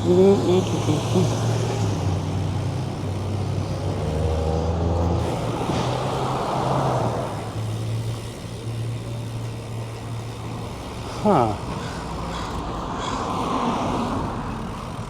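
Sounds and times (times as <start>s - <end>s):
vehicle engine humming: 0.0s - 15.0s
vehicle passing: 0.0s - 15.0s.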